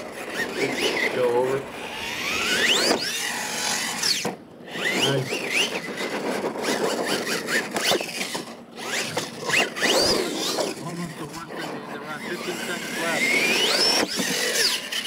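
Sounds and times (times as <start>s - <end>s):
electric toy truck motor whining: 0.0s - 15.0s.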